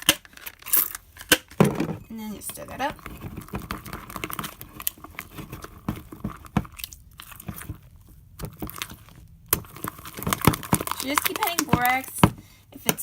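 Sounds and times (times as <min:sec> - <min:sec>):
spoon stirring sticky slime: 0:02.2 - 0:13.0.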